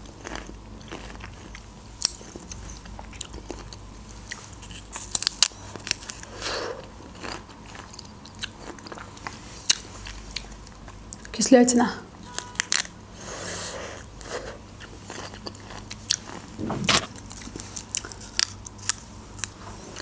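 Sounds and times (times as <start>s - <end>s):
chewing crunchy seeds: 0.0s - 11.4s, 14.0s - 20.0s.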